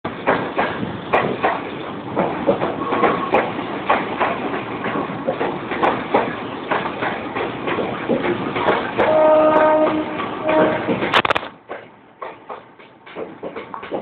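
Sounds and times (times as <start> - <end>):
electric train rumbling past: 0.1 - 14.0
train wheel clacks: 0.1 - 14.0.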